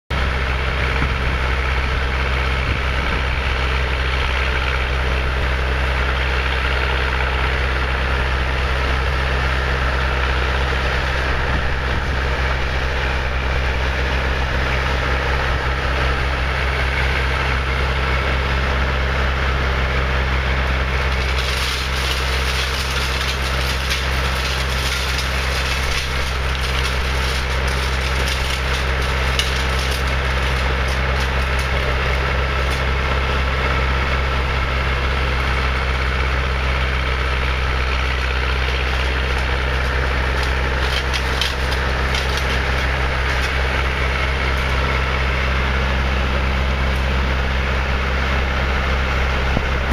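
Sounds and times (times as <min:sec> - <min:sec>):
skid steer engine under load: 0:00.1 - 0:49.9
snowblower chewing through snow: 0:00.2 - 0:49.9.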